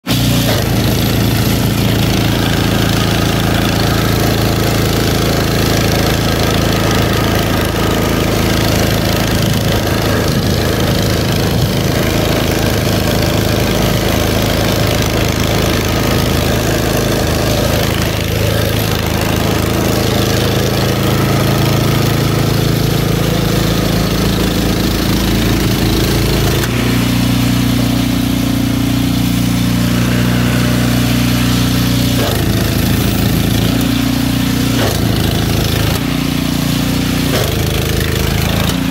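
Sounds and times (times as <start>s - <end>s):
snow blower running: 0.0s - 38.9s.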